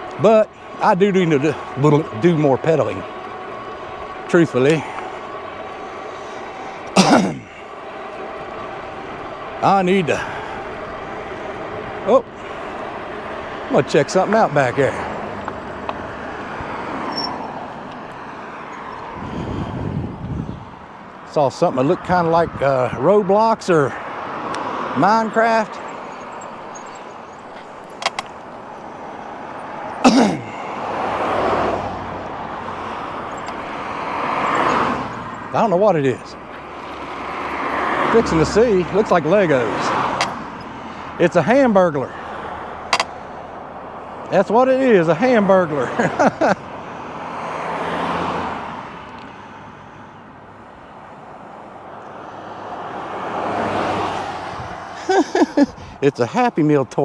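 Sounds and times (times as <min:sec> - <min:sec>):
car passing: 0:00.0 - 0:57.0
wind and road noise: 0:00.0 - 0:57.0.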